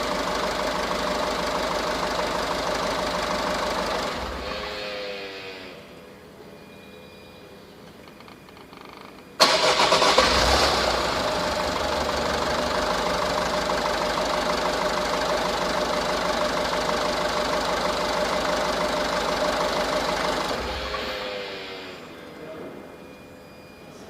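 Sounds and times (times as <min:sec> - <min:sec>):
diesel engine starting and idling: 0:00.0 - 0:05.9, 0:09.0 - 0:22.4.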